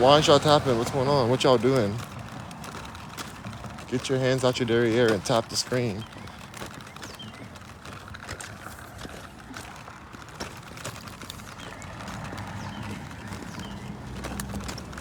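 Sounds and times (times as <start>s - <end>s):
footsteps: 0.0s - 15.0s.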